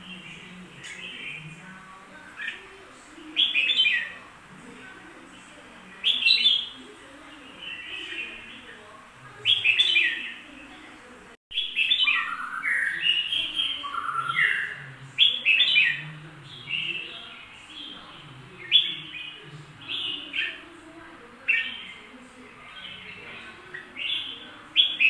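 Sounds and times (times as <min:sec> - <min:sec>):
bulbul singing: 0:00.0 - 0:25.0.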